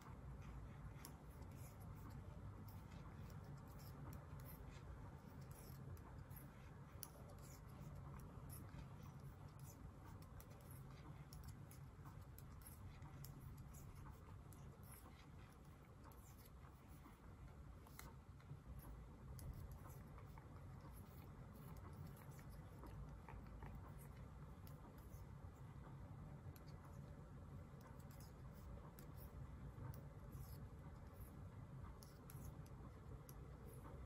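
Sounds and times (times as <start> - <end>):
faint small clicks and scratches: 0.0 - 34.0
low room hum: 0.0 - 34.0.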